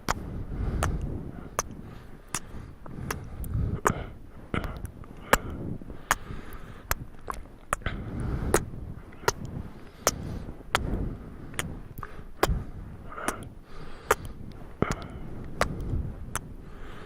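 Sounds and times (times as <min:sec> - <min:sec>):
breathy rustle: 0:00.0 - 0:17.0.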